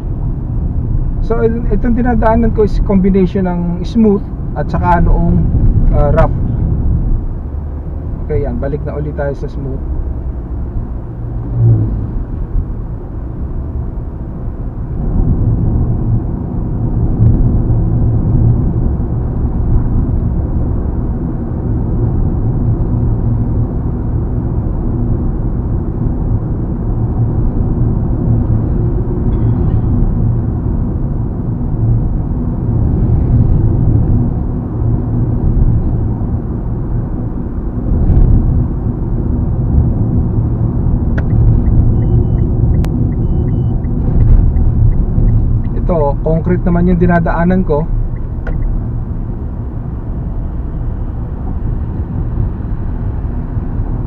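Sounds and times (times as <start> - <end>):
car engine hum: 0.0 - 54.0
road and tyre noise: 0.0 - 54.0.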